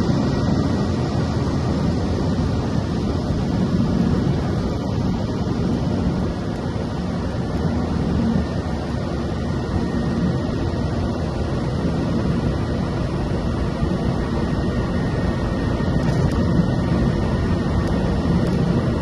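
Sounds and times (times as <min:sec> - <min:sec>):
faint high whine: 0:00.0 - 0:19.0
turboprop engine drone: 0:00.0 - 0:19.0.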